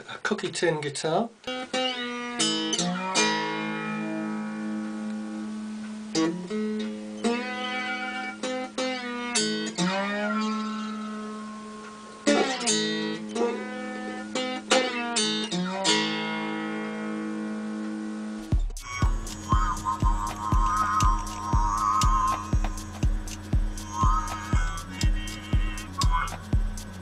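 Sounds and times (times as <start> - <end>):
slide guitar notes: 1.4 - 27.0.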